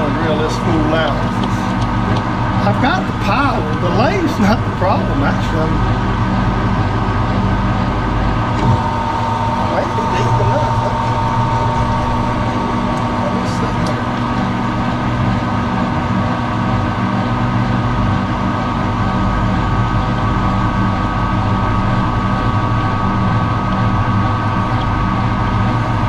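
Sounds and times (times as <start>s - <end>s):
high whine of lathe: 0.0s - 26.0s
lathe motor humming: 0.0s - 26.0s.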